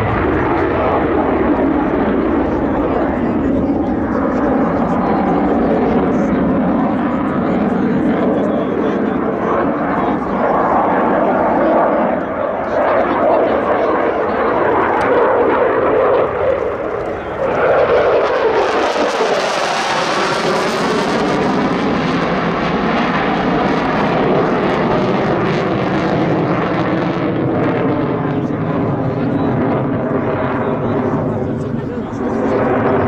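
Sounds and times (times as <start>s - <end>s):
jet fighter engine roar: 0.0s - 33.0s.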